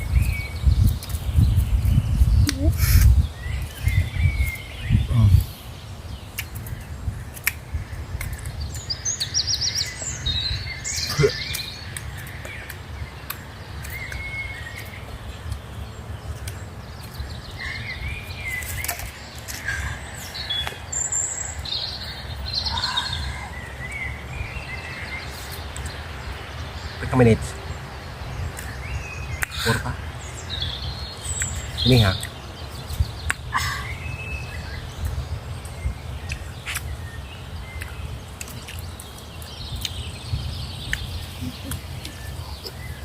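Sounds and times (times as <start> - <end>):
birds chirping and trilling: 0.0 - 43.0.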